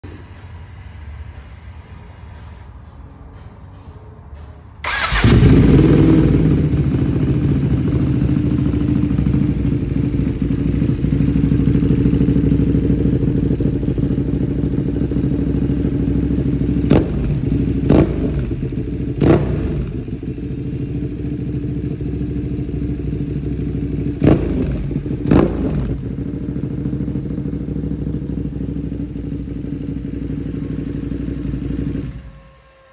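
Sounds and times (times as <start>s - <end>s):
motorcycle throttle blips: 4.8s - 32.4s
motorcycle engine idling: 4.8s - 32.9s.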